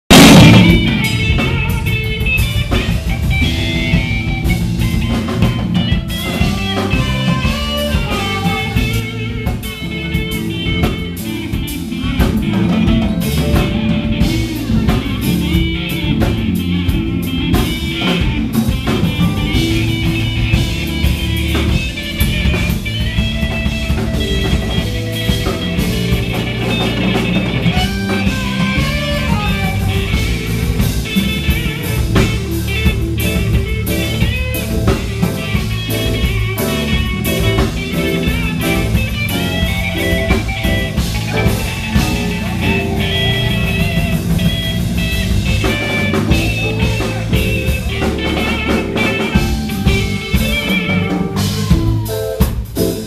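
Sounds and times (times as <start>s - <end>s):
bass: 0.0s - 53.0s
drum kit: 0.0s - 53.0s
electric guitar lead: 0.0s - 53.0s
keyboard: 0.1s - 53.0s.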